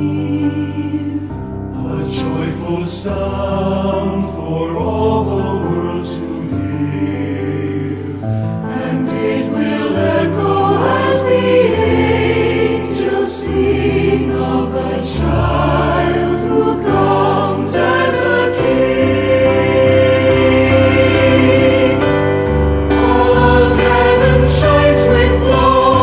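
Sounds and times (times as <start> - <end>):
choir singing: 0.0 - 26.0
sustained accompaniment chords: 0.0 - 26.0.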